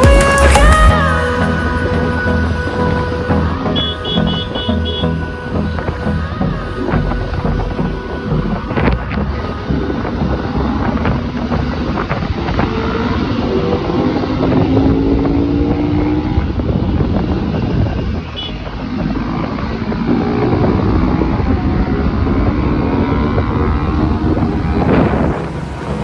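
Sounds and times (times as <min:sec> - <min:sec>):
motorcycle engines running: 0:00.0 - 0:26.0
wind noise on microphone: 0:00.0 - 0:26.0.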